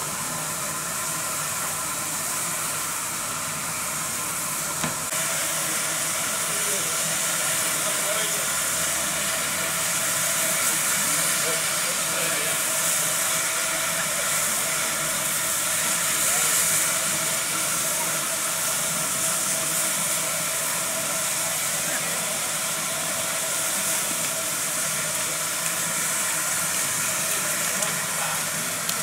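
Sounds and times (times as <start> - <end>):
steam hissing from locomotive: 0.0 - 29.0
faint voices: 5.6 - 29.0.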